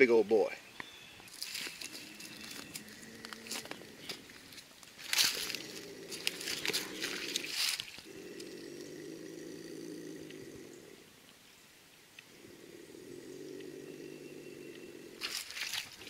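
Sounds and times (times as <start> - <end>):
crackle of movement: 1.3 - 11.4, 12.1 - 16.0
opossum growling low: 1.4 - 11.2, 12.2 - 16.0.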